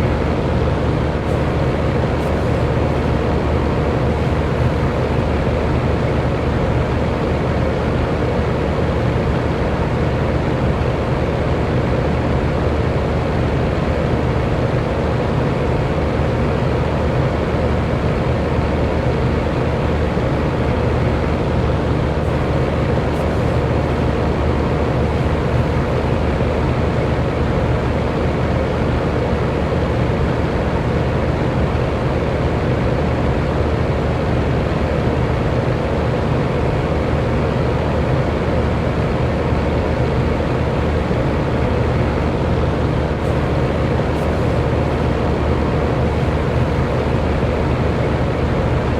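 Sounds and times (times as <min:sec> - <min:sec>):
electric fan running: 0:00.0 - 0:48.9.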